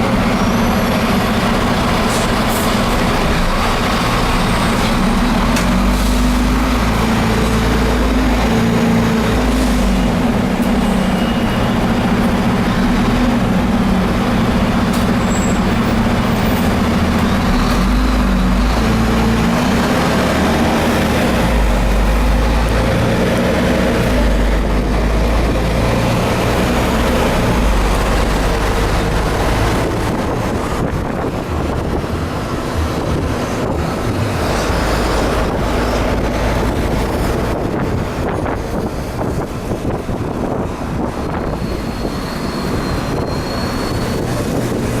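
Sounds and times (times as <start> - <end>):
bus diesel engine droning: 0.0 - 45.0.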